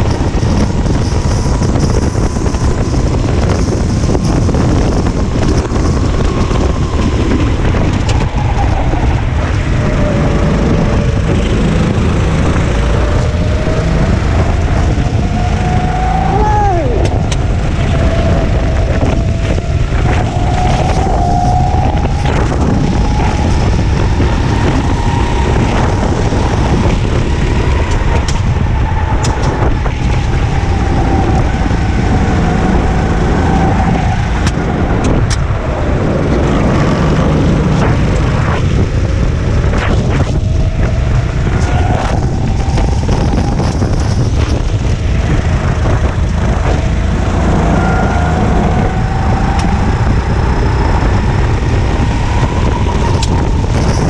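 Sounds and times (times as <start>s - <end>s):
racing kart engine: 0.0s - 54.0s.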